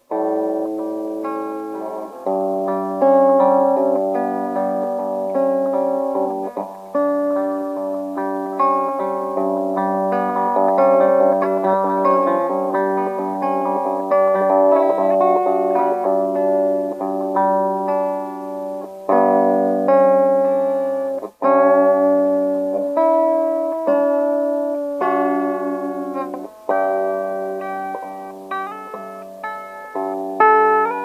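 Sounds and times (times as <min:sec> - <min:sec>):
guitar melody: 0:00.0 - 0:31.0.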